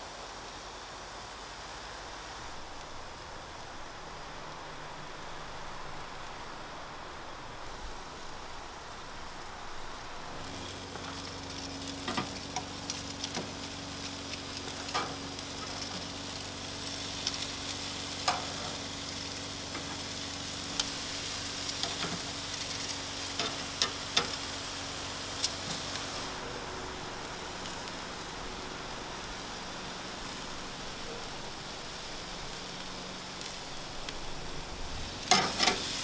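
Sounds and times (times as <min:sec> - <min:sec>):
chicken sizzling on a grill: 0:00.0 - 0:36.0.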